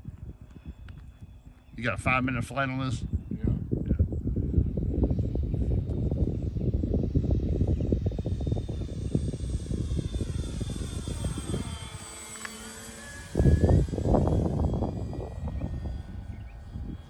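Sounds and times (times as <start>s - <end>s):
model plane motor whining: 0.0s - 17.0s
wind buffeting microphone: 0.0s - 17.0s.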